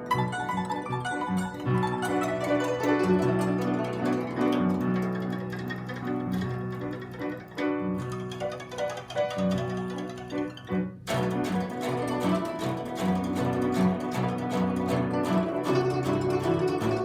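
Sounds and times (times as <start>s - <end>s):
plucked zither solo: 0.0s - 17.0s.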